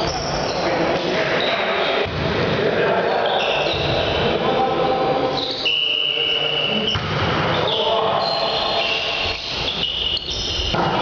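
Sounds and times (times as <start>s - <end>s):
shoes squeaking on hall floor: 0.0s - 2.2s, 3.0s - 4.3s, 5.3s - 11.0s
echoing hall noise: 0.0s - 11.0s.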